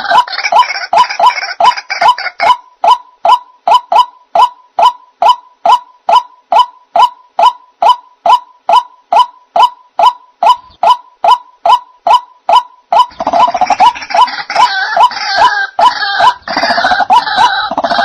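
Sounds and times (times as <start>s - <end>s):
harsh noisy bird calling: 0.0s - 18.0s
waterhen call repeated: 0.0s - 18.0s.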